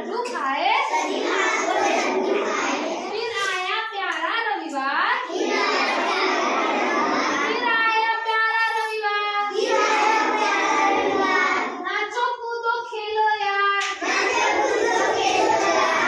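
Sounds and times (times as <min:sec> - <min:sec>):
children chanting a rhyme: 0:00.0 - 0:03.9, 0:04.6 - 0:12.9, 0:13.7 - 0:16.0.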